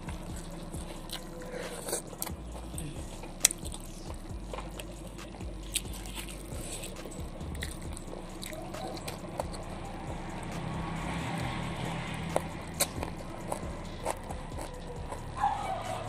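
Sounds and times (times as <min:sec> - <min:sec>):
person chewing crunchy food: 0:00.0 - 0:15.9.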